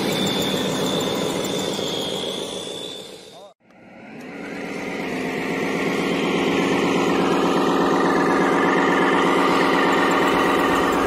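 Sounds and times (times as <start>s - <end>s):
model excavator engine drone: 0.0s - 11.0s.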